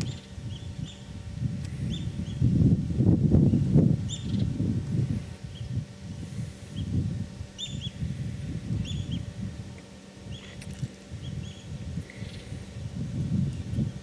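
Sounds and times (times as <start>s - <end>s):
gusty low rumble: 0.0s - 14.0s.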